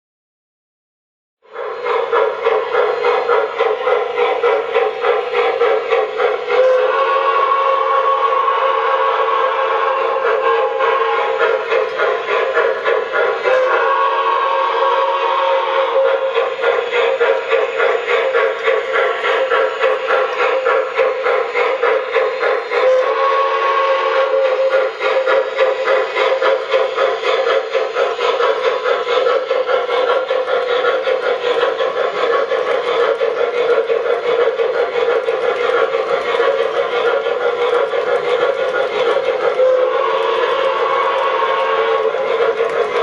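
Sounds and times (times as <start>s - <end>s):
train whistle blast: 1.4s - 28.8s, 35.1s - 43.0s
steam chuffing: 1.4s - 43.0s
train rolling hum on track: 1.4s - 43.0s.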